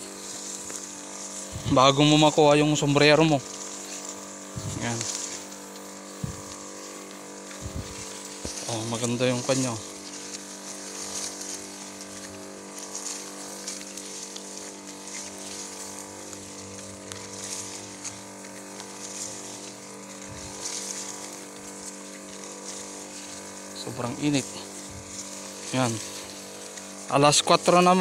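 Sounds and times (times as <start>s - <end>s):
small engine running: 0.0s - 28.0s
spray hissing from wand: 0.0s - 28.0s.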